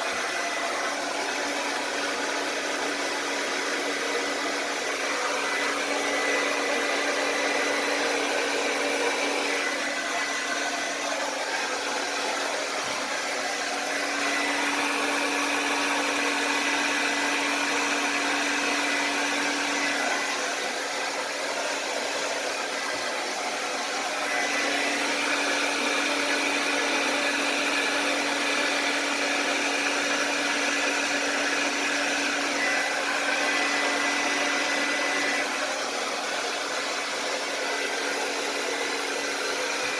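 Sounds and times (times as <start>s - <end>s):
blow dryer running: 0.0s - 39.9s.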